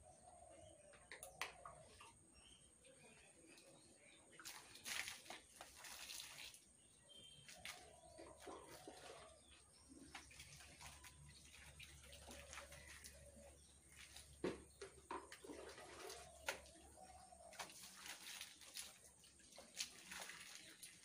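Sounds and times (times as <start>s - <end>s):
faint water splashing: 1.1s - 21.0s.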